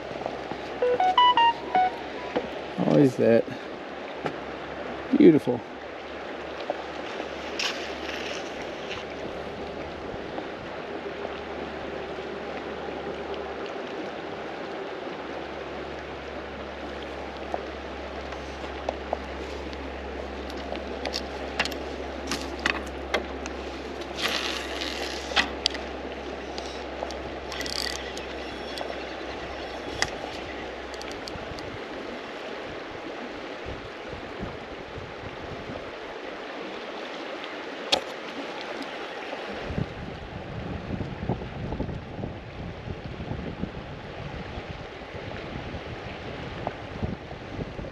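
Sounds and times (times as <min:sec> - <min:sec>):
river rushing over riffles: 0:00.0 - 0:40.6.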